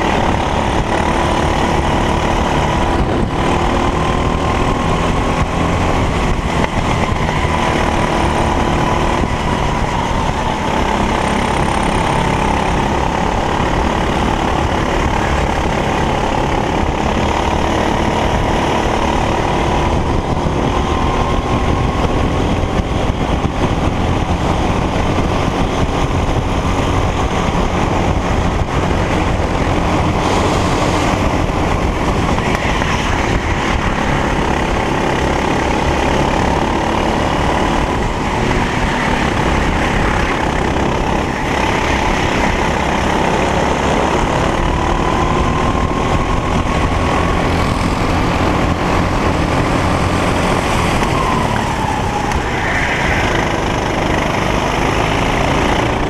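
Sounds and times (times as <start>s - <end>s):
kart engine revving: 0.0s - 56.0s
other engines: 0.0s - 56.0s.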